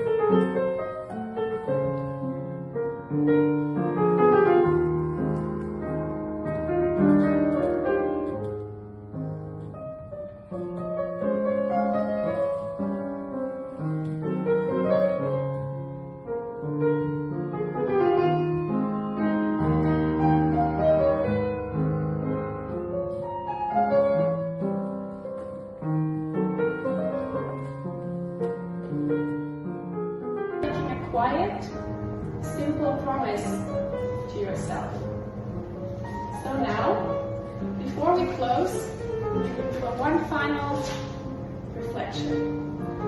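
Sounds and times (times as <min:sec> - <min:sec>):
slow calm piano piece: 0:00.0 - 0:43.0.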